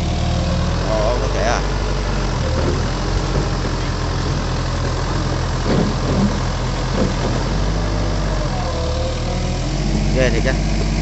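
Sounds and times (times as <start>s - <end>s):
excavator diesel engine idling: 0.0s - 11.0s.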